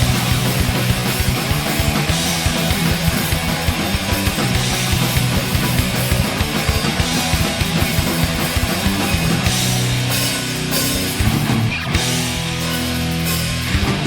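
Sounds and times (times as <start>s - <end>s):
heavy metal song: 0.0s - 14.0s.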